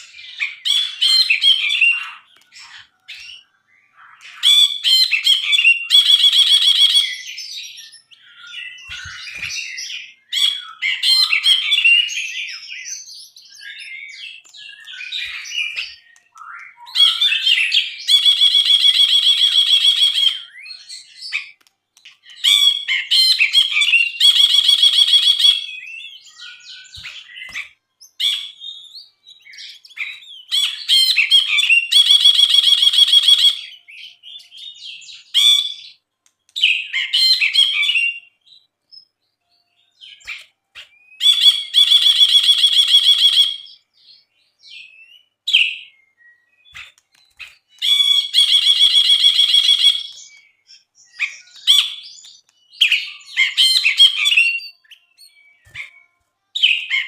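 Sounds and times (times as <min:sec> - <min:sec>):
bird chirping phrases: 0:00.0 - 0:57.0.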